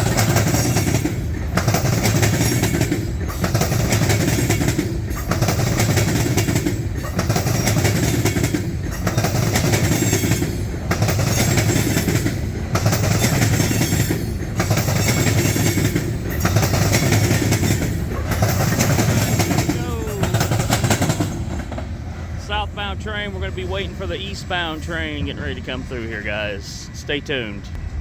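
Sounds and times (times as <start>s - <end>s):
freight train cars rolling past: 0.0s - 28.0s.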